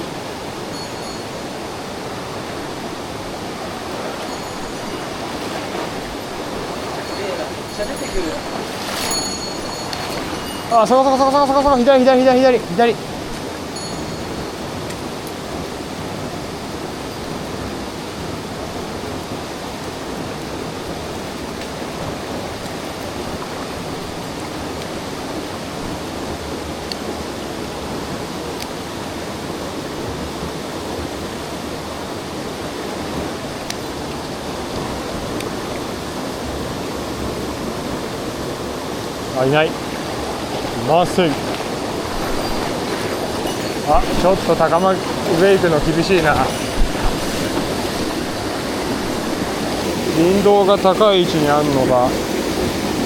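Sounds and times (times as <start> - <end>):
stream water rushing over rocks: 0.0 - 53.0.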